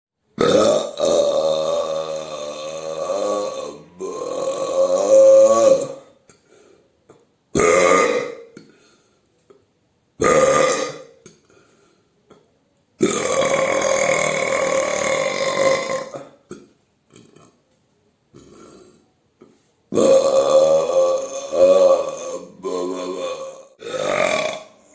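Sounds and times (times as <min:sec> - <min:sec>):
loud human burps: 0:00.4 - 0:09.0, 0:10.2 - 0:11.7, 0:12.3 - 0:17.7, 0:18.3 - 0:24.9.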